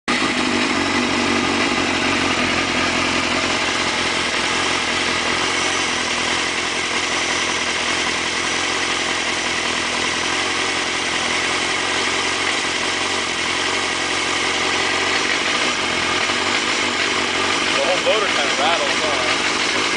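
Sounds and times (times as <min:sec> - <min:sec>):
motorcycle engine idling with rattle: 0:00.1 - 0:19.9.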